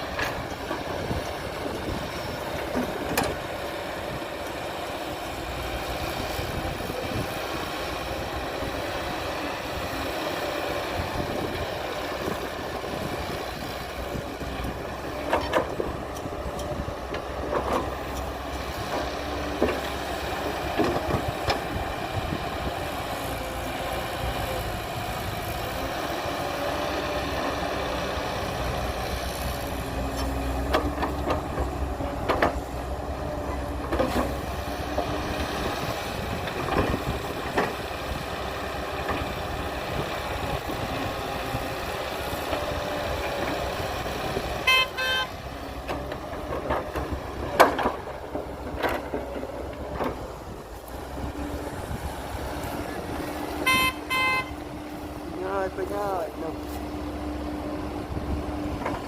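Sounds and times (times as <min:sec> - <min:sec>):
diesel engines of machinery running: 0:00.0 - 0:59.0.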